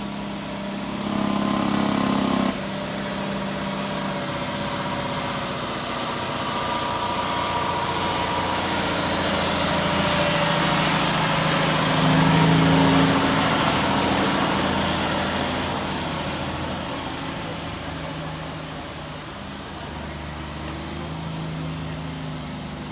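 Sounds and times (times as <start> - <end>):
heavy truck engine running: 0.0 - 22.9.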